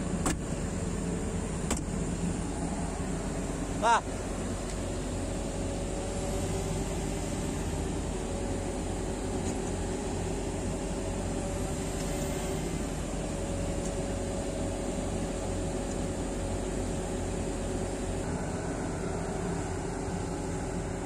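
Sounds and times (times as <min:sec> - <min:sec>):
diesel engine running steadily: 0:00.0 - 0:21.0
faint steady whine: 0:00.0 - 0:21.0.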